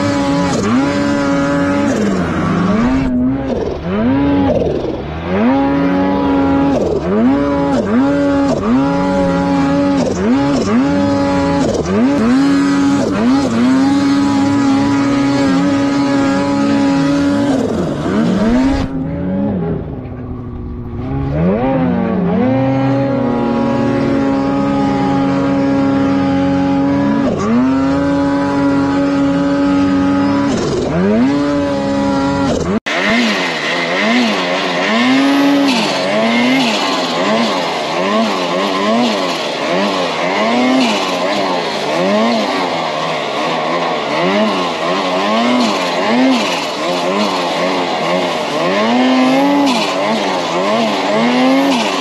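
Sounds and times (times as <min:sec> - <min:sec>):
snowmobile engine revving: 0:00.0 - 0:52.0.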